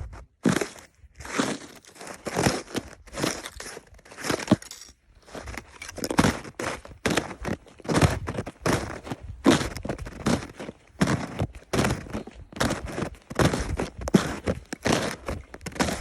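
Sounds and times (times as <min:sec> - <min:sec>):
snow and ice crunching: 0:00.4 - 0:16.0.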